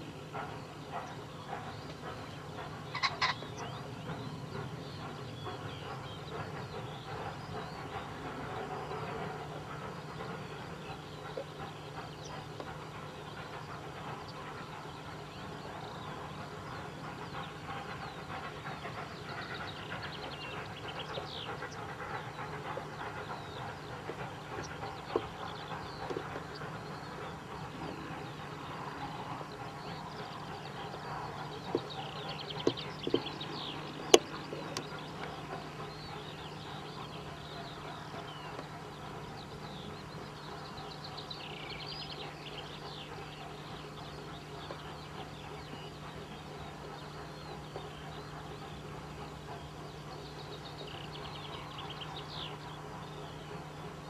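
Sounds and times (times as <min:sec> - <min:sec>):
birds chirping: 0:00.0 - 0:54.0
distant steam locomotive rumble: 0:00.0 - 0:54.0.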